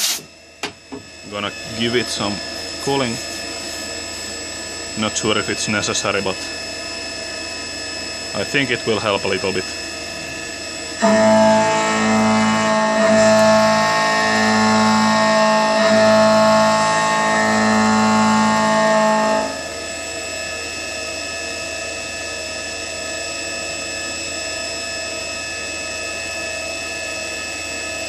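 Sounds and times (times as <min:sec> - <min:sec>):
milling machine whine: 0:00.0 - 0:28.0.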